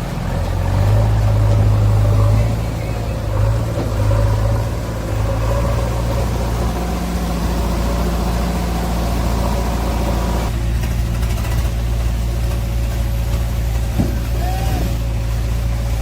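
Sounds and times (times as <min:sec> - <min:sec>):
heavy machinery diesel engine running: 0:00.0 - 0:16.0.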